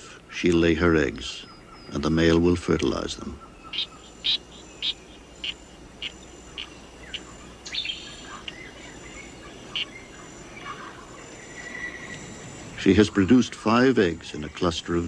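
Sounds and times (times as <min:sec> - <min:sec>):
faint insect chirring: 0:00.0 - 0:15.0
frog chirping: 0:00.7 - 0:15.0.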